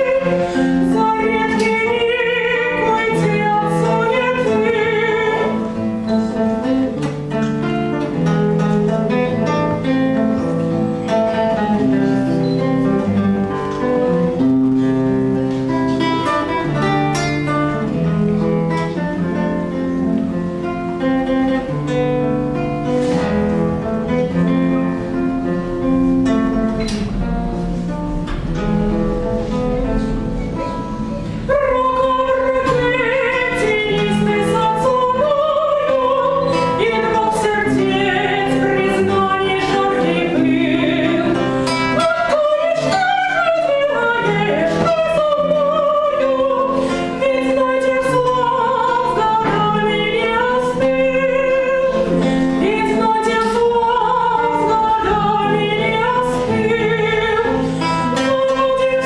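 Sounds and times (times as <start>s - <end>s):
acoustic guitar: 0.0s - 59.0s
woman singing with vibrato: 0.0s - 59.0s.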